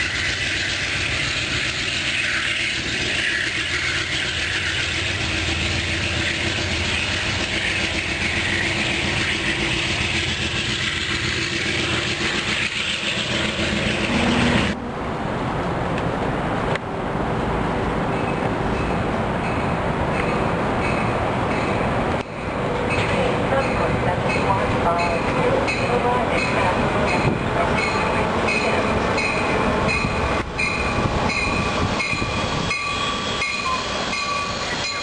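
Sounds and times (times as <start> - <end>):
diesel locomotive engine hum: 0.0 - 35.0
wheel and rail noise: 0.0 - 35.0.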